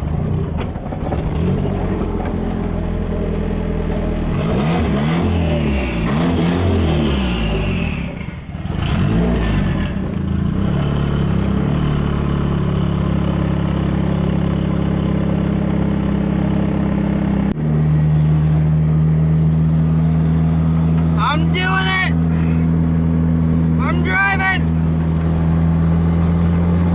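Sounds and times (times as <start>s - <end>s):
car engine driving: 0.0s - 26.9s.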